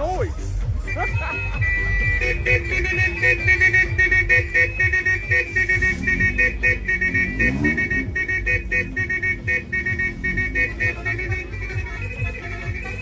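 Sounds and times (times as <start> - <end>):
music with thumping bass beat: 0.0 - 13.0
pulsing two-tone vehicle horn: 0.7 - 13.0.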